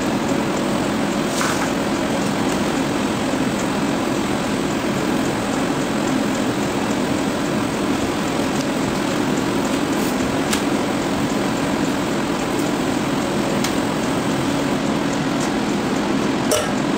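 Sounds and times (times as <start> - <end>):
gas burner roaring: 0.0 - 16.9
hot oil sizzling: 0.0 - 16.9
kitchen extractor: 0.0 - 16.9.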